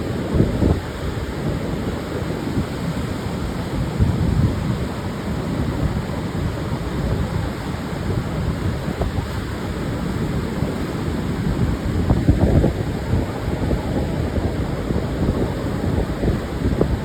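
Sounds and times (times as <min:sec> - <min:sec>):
surf washing onto sandy beach: 0:00.0 - 0:17.0
wind: 0:00.0 - 0:17.0.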